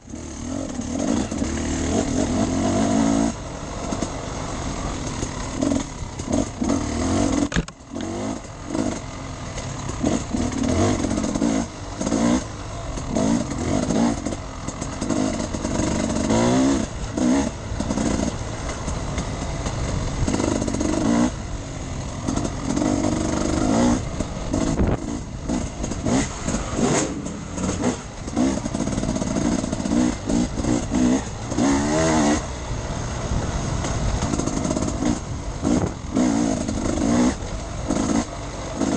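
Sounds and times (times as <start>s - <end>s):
constant rushing noise: 0.0s - 38.9s
motorcycle engine revving: 0.0s - 38.9s.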